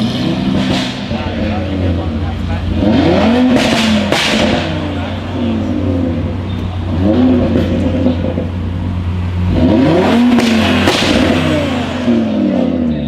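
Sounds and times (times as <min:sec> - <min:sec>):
car engine revving: 0:00.0 - 0:13.0
exhaust cracks: 0:00.0 - 0:13.0.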